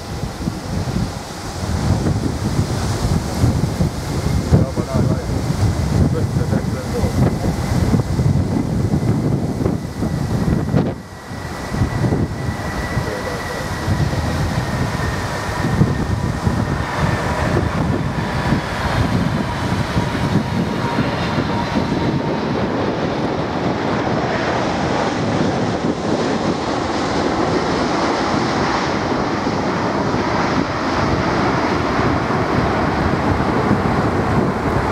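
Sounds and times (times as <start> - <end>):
jet engine rush: 0.0 - 34.9
jet engine whine: 0.0 - 34.9
wind buffeting microphone: 0.0 - 34.9.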